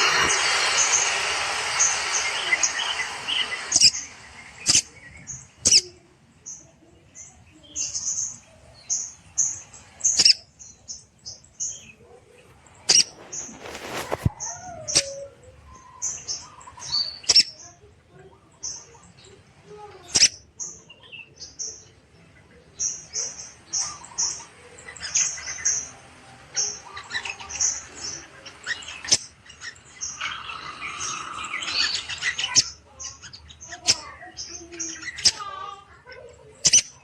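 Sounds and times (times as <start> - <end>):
cage bird chirping: 0.0 - 37.0.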